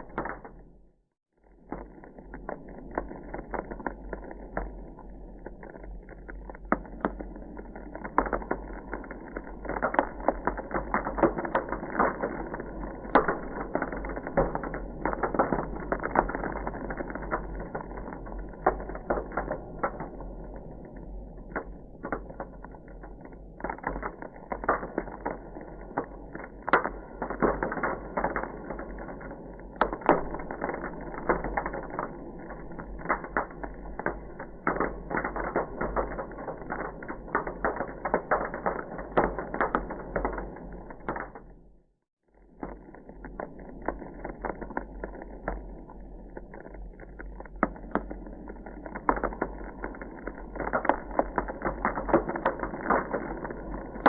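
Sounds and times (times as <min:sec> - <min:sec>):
ice crackling and popping: 0:00.0 - 0:54.0.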